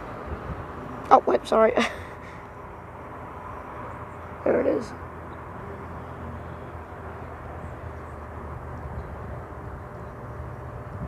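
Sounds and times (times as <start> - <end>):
electric trains rumbling and humming: 0.0 - 11.0.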